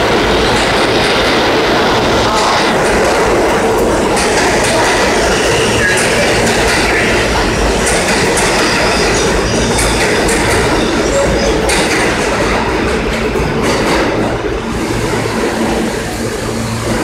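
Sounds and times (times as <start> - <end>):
subway train rumble: 0.0 - 17.0
train clicks: 0.0 - 17.0.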